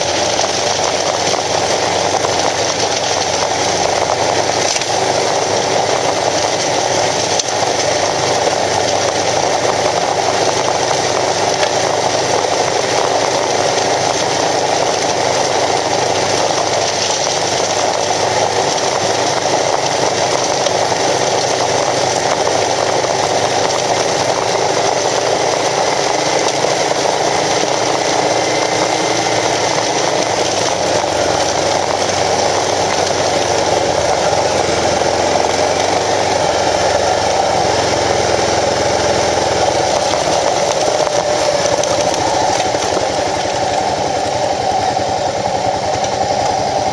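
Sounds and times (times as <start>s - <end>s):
motorcycle engine running: 0.0s - 46.9s
tyres on gravel: 0.0s - 46.9s
wind and road noise: 0.0s - 46.9s.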